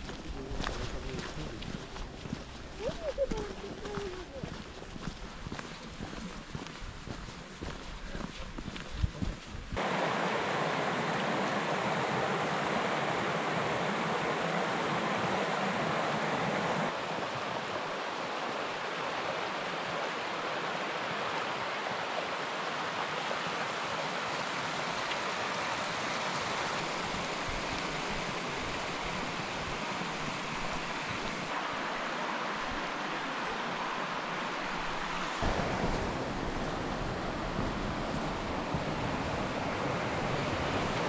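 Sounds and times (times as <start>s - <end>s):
stream rushing over rocks: 0.0s - 8.0s, 9.8s - 41.0s.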